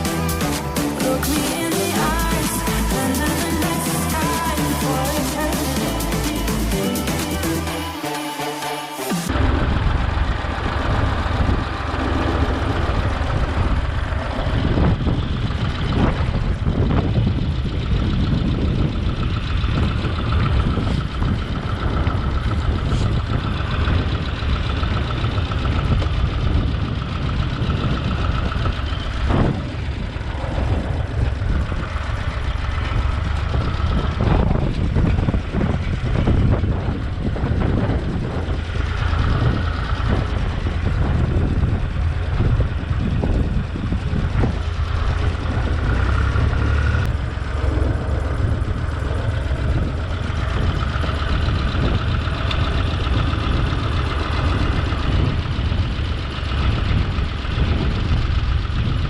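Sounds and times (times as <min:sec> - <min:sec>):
tractor engine running under load: 0:00.0 - 0:08.2, 0:09.1 - 0:59.0.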